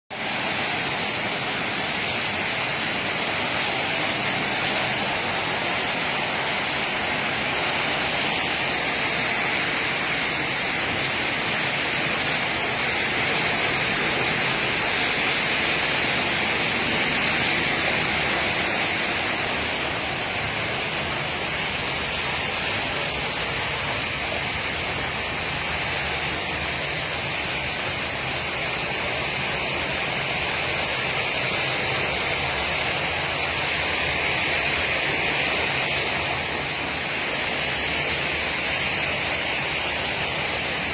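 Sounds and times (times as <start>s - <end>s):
steady rain: 0.1s - 40.9s.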